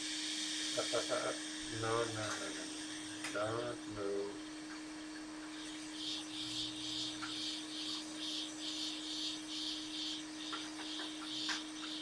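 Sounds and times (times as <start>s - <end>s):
hot air gun humming: 0.0s - 10.3s.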